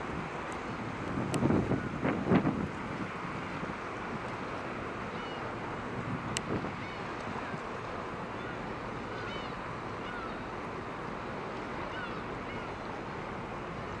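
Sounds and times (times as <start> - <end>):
harbour ambience: 0.0 - 14.0
wind: 0.0 - 14.0.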